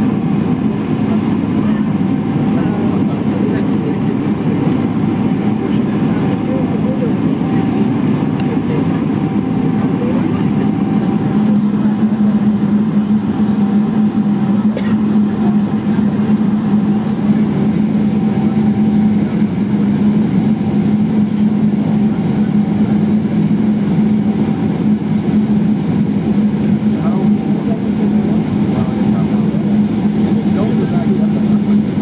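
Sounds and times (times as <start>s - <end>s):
airplane cabin hum: 0.0s - 32.0s.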